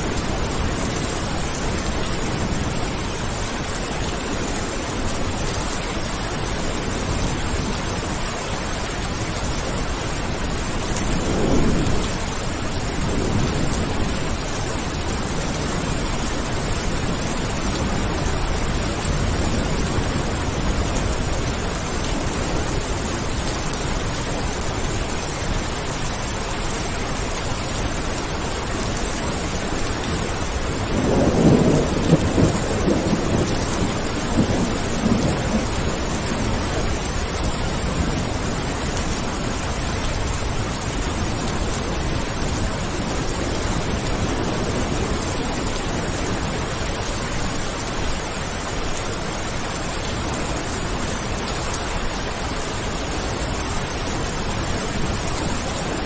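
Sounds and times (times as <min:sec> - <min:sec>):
low thunder rumble: 0:00.0 - 0:51.5
heavy rain: 0:00.0 - 0:56.0.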